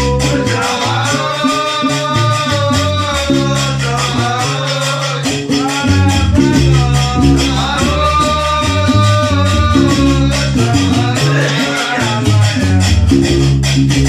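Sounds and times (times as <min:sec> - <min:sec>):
person singing: 0:00.0 - 0:13.4
bass lute playing low riff: 0:00.0 - 0:14.0.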